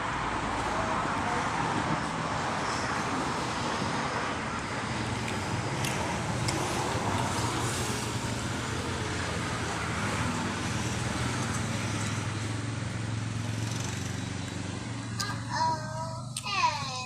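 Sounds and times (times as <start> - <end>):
road traffic engine hum: 0.0 - 17.0.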